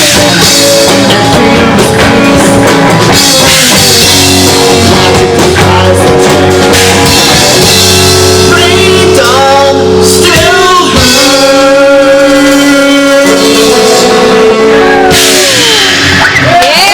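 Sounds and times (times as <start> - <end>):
person singing: 0.0 - 16.1
bass guitar: 0.0 - 16.9
drums: 0.0 - 16.9
electric guitar: 0.0 - 16.9.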